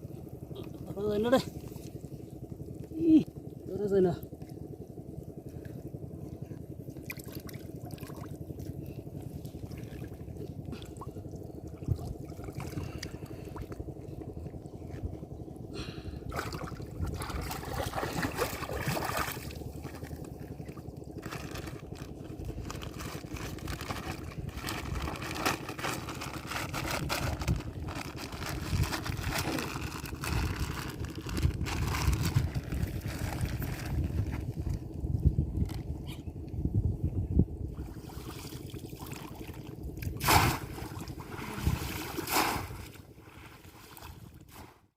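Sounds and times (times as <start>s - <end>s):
steady low rumble: 0.0s - 44.6s
water splashing and sloshing: 4.3s - 15.2s, 16.2s - 34.7s, 37.7s - 44.9s.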